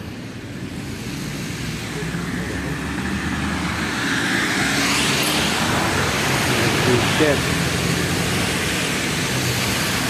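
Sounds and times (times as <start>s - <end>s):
engines rumbling: 0.0s - 10.0s.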